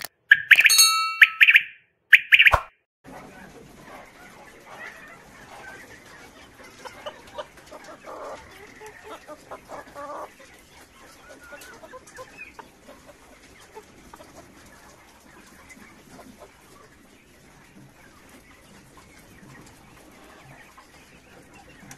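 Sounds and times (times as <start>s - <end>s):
chickens clucking: 0.3s - 21.9s.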